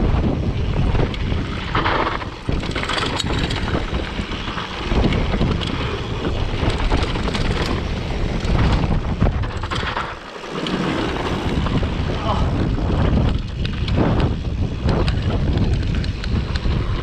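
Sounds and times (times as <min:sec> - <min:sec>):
low rumble: 0:00.0 - 0:15.7
wind buffeting microphone: 0:00.0 - 0:17.0
bike knocks and rattles: 0:00.3 - 0:17.0.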